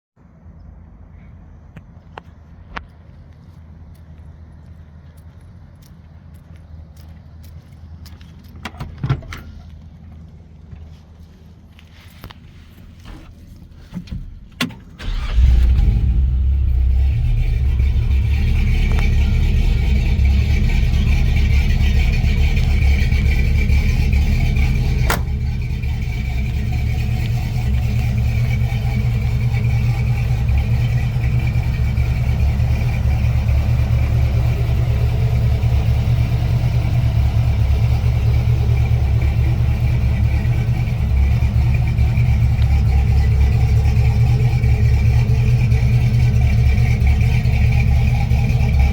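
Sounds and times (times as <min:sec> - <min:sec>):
truck engine starting and running: 0:00.2 - 0:48.9.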